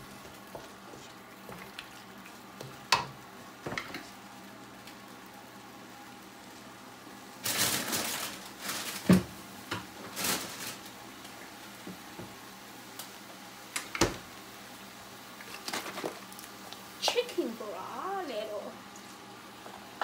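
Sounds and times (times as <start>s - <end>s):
stir-fry sizzling in a wok: 0.0s - 20.0s.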